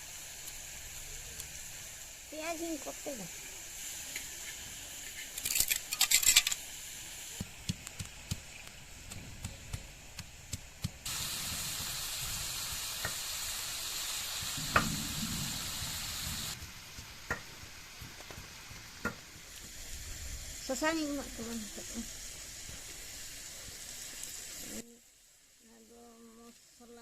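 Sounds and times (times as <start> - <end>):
curry sizzling in a pot: 0.0 - 27.0.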